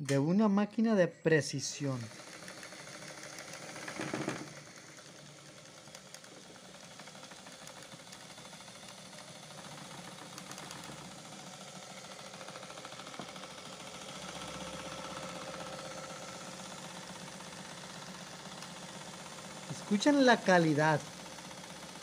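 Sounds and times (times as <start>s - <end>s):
sewing machine motor whirring: 1.8s - 22.0s.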